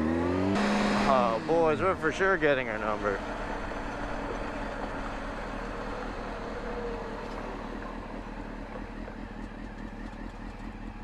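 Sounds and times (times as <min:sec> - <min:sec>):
motorcycle engine running: 0:00.0 - 0:11.0
traffic noise: 0:00.0 - 0:11.0.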